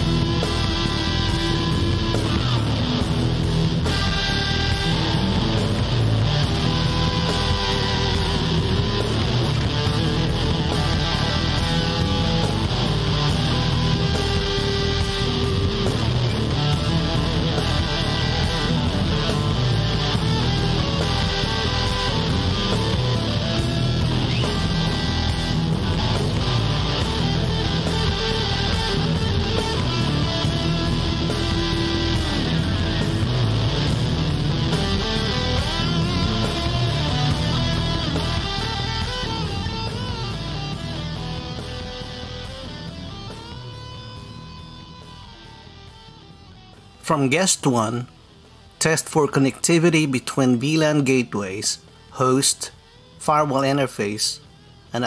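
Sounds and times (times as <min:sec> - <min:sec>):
blues-rock music with guitar: 0:00.0 - 0:48.8.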